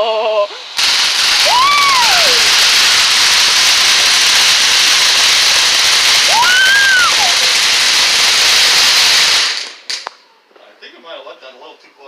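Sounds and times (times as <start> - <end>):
firework fountain hissing: 0.0 - 10.5
firework whistle: 0.4 - 10.1.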